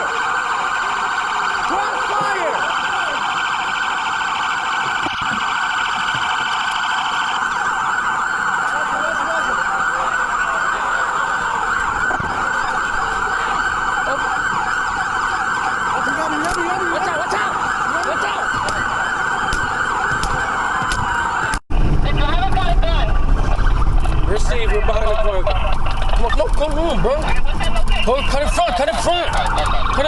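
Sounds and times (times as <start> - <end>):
fast pulsing high siren tone: 0.0 - 30.0
police siren: 0.0 - 30.0.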